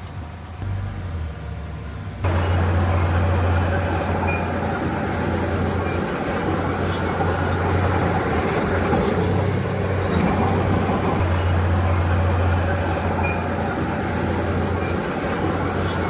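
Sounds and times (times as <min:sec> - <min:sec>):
bulldozer diesel engine droning: 0:00.0 - 0:16.0
short high squeaks: 0:02.3 - 0:16.0.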